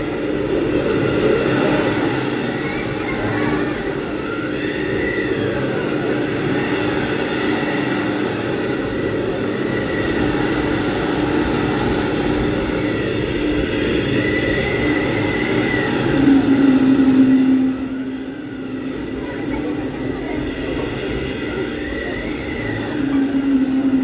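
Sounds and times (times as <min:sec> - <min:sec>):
howling blizzard wind: 0:00.0 - 0:24.0.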